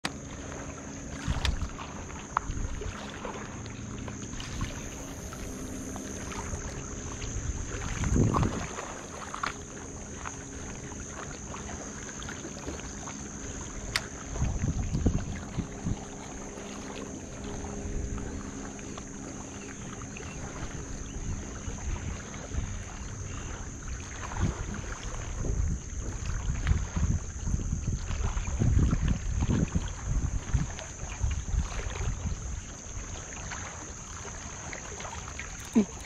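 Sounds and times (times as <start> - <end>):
water lapping on rocks: 0.0 - 36.0
wind buffeting microphone: 0.1 - 3.3, 4.2 - 11.9, 12.5 - 33.2.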